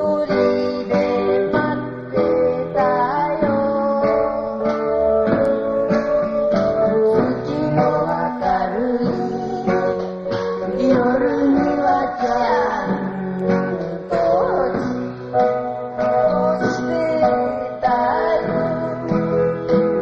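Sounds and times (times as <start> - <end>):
band music: 0.0 - 20.0
strummed acoustic guitar: 0.0 - 20.0.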